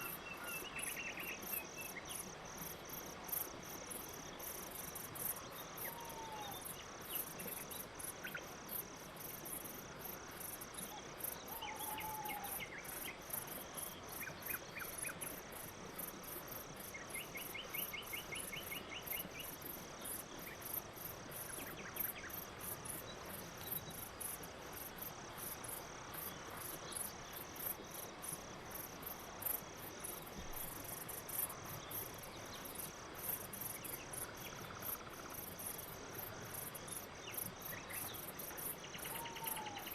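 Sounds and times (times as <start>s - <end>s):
crickets chirping: 0.0s - 39.9s
faint insect chirps: 0.0s - 39.9s.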